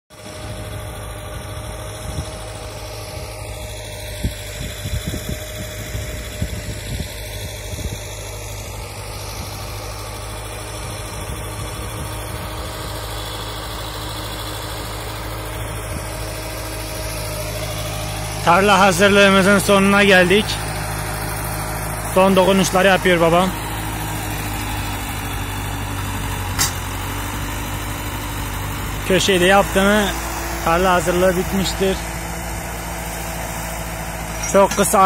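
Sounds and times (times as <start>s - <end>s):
tractor diesel engine running: 0.1s - 35.0s.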